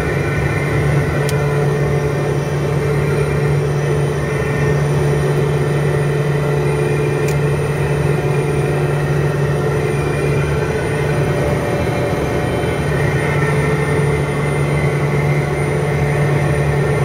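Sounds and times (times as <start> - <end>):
turboprop engine drone: 0.0 - 17.0.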